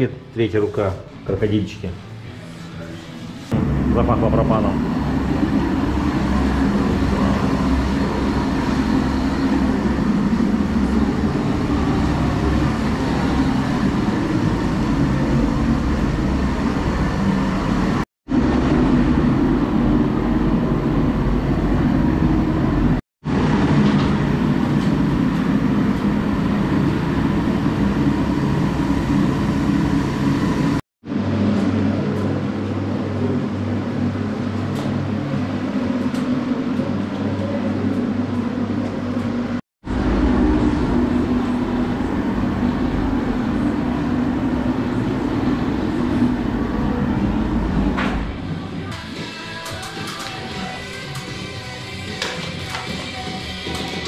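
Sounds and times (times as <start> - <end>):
low hum: 2.0 - 49.0.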